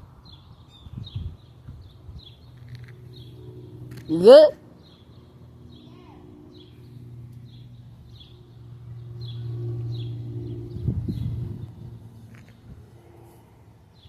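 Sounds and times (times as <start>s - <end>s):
vehicle engine hum: 1.4s - 14.0s.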